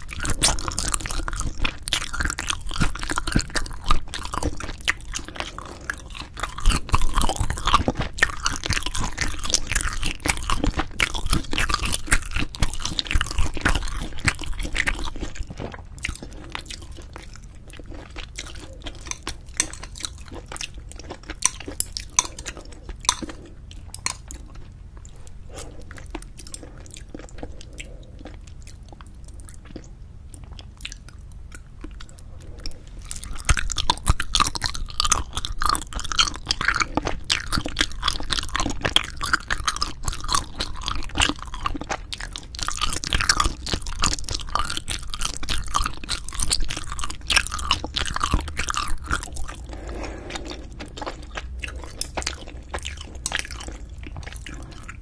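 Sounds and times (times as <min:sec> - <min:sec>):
close chewing of food: 0:00.0 - 0:55.0.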